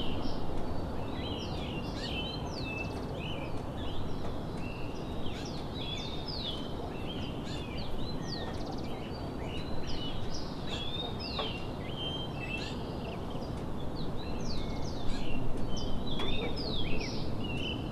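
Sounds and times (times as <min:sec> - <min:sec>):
low background noise: 0:00.0 - 0:17.9
small birds chirping: 0:00.0 - 0:17.9.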